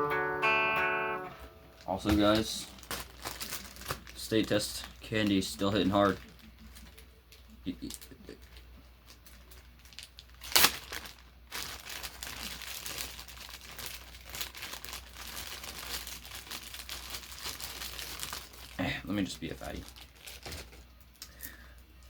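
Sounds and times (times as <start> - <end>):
candy wrapper crinkling: 1.8 - 21.7.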